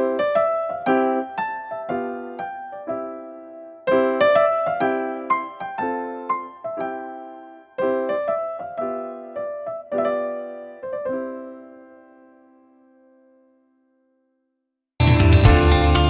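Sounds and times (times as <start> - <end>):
piano music: 0.0 - 13.7, 15.0 - 16.0.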